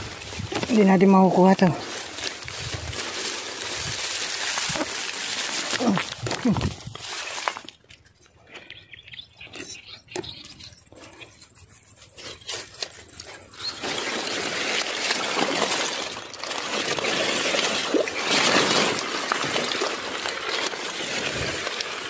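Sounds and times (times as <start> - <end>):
water sloshing and splashing: 0.0 - 8.4, 10.2 - 22.0.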